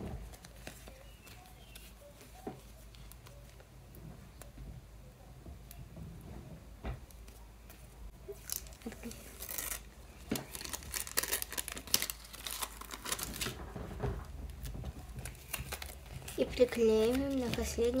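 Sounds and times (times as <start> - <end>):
paper and tape rustling and tearing: 0.0 - 4.5, 7.1 - 18.0.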